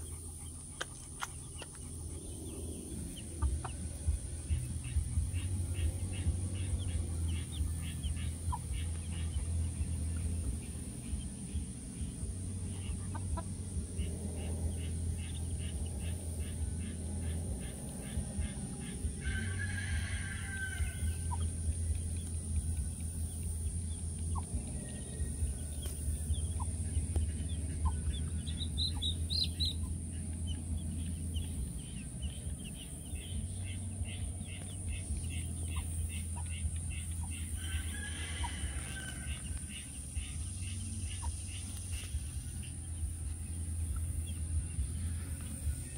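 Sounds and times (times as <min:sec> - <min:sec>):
hen clucking: 0:00.0 - 0:45.6
chicks peeping: 0:00.0 - 0:45.9
steady low hum: 0:00.0 - 0:45.9.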